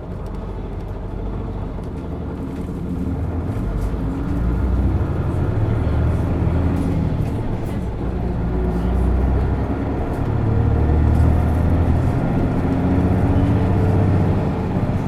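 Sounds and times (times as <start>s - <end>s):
bus diesel engine accelerating: 0.0s - 15.0s.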